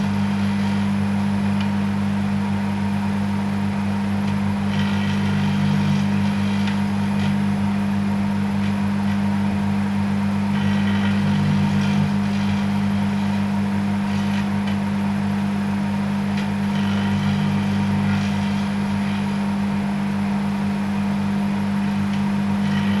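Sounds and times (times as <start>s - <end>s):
buzzing crackle of electric arcing: 0.0s - 23.0s
microwave oven humming: 0.0s - 23.0s.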